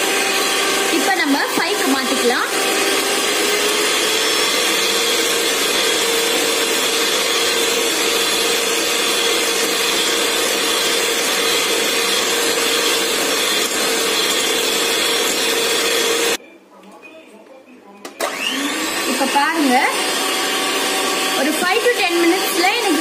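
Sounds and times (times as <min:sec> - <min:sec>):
electric hand mixer whining: 0:00.0 - 0:16.4, 0:18.2 - 0:23.0.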